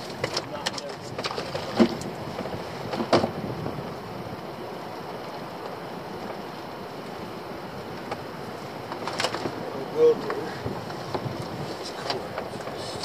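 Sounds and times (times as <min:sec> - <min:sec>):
sea washing: 0:00.0 - 0:13.0
wind buffeting microphone: 0:00.0 - 0:13.0.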